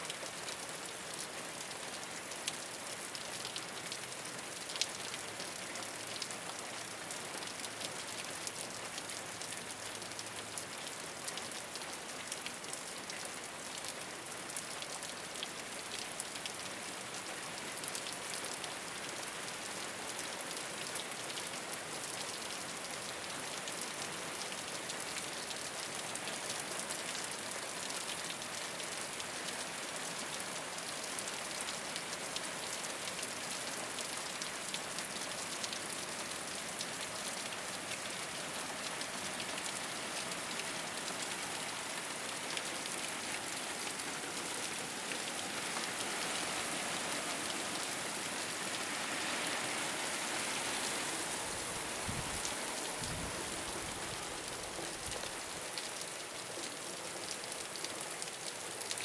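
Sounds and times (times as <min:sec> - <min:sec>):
rain pattering on a roof: 0:00.0 - 0:59.0.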